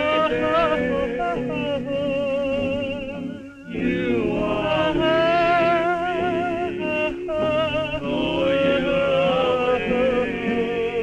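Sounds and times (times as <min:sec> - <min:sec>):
backing music: 0:00.0 - 0:11.0
man singing a slow ballad: 0:00.0 - 0:11.0.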